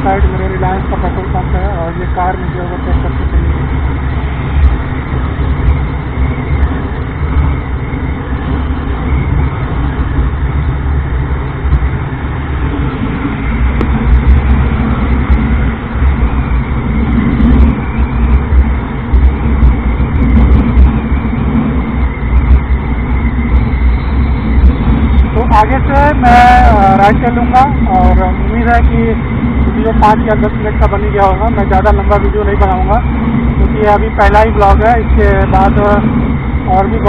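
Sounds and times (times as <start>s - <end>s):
motorcycle engine: 0.0s - 37.0s
road noise: 0.0s - 37.0s
wind rumble on microphone: 0.0s - 37.0s.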